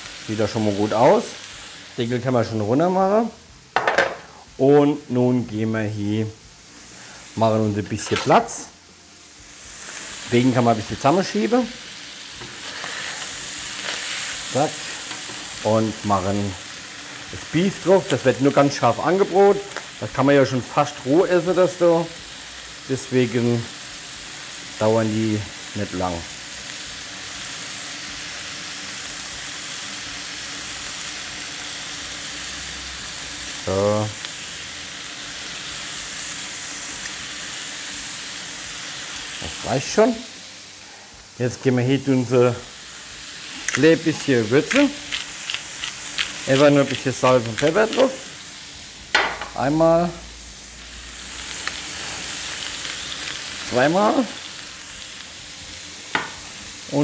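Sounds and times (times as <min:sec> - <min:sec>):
meat sizzling on a griddle: 0:00.0 - 0:57.0.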